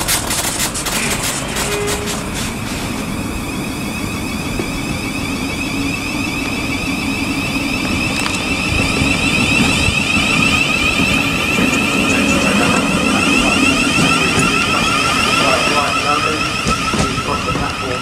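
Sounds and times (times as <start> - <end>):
electric train whine: 0.0 - 18.0
wheels rumbling on track: 0.0 - 18.0.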